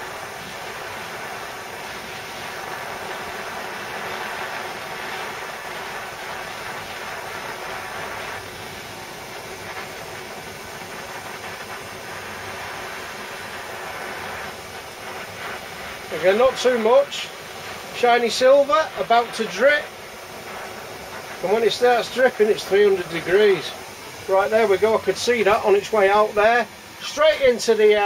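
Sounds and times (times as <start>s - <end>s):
blowtorch flame hissing: 0.0s - 28.0s.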